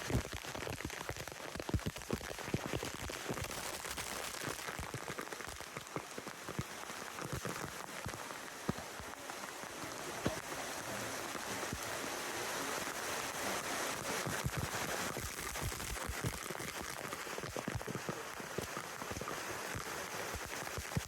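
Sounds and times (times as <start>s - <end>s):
pouring water hiss: 0.0s - 21.0s.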